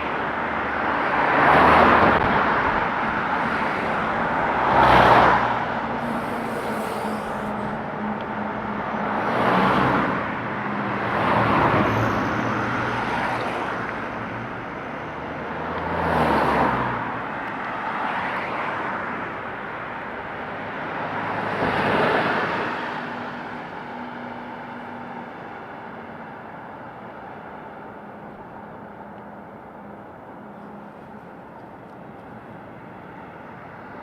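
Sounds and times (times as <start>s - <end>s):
cars passing by: 0.0s - 34.0s.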